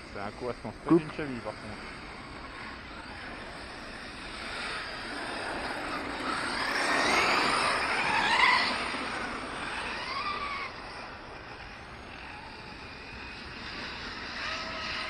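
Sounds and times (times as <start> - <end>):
electric motor whine: 0.0 - 15.0
hiss of tyres and wind: 1.2 - 15.0.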